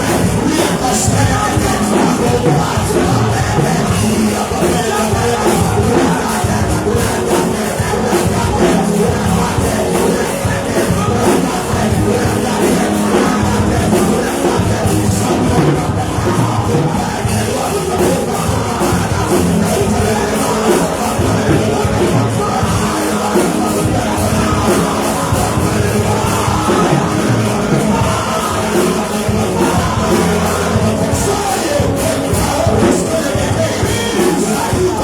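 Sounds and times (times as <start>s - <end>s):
church worship music: 0.0s - 35.0s
congregation praying and shouting: 0.0s - 35.0s.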